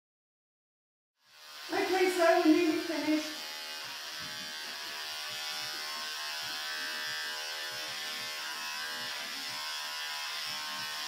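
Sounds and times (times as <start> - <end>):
electric hair clippers buzzing: 1.2 - 11.0.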